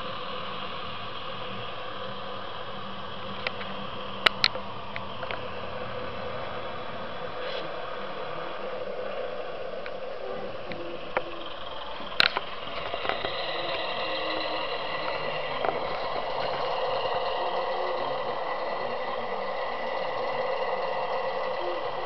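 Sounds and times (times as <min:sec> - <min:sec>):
model train motor drone: 0:00.0 - 0:22.0.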